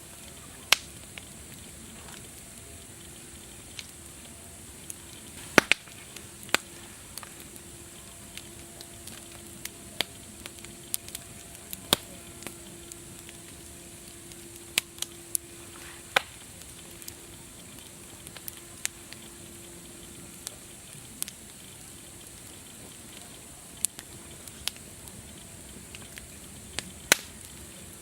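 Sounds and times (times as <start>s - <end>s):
fire hiss: 0.0s - 28.0s
wood fire crackling: 0.0s - 28.0s
sharp pops: 4.8s - 27.6s.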